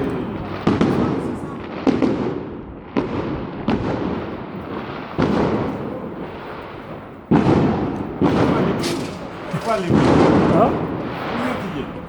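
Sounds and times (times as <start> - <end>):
firecracker bangs with echo: 0.0 - 12.0.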